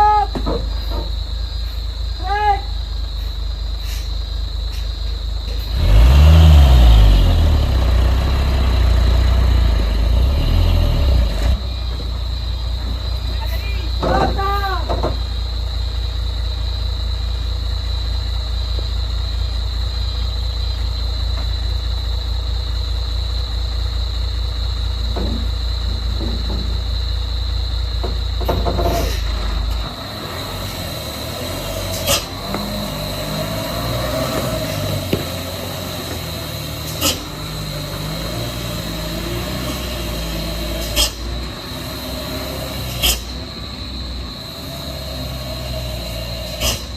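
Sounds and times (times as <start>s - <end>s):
heavy vehicle engine rumbling: 0.0s - 46.9s.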